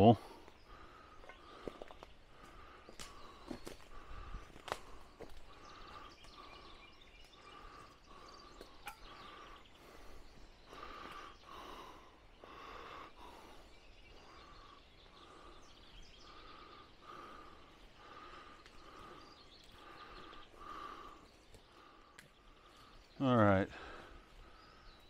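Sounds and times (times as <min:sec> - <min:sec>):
quiet outdoor background: 0:00.0 - 0:25.0.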